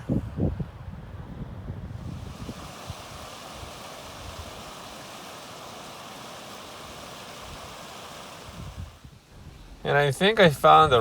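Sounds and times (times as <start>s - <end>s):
wind rushing: 0.0s - 9.9s.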